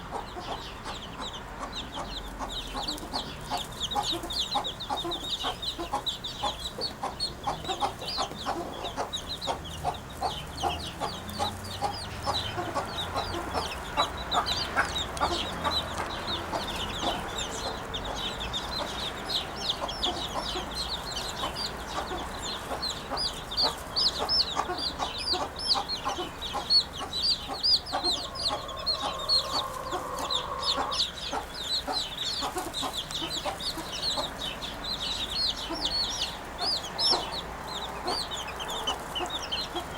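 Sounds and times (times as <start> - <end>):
birds chirping chatter: 0.0 - 39.9
clucking bird calls: 0.0 - 39.9.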